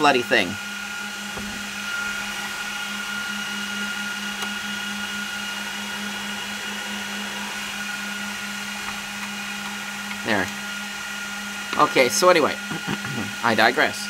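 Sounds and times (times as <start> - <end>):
cooling fans humming and whining: 0.0 - 14.0.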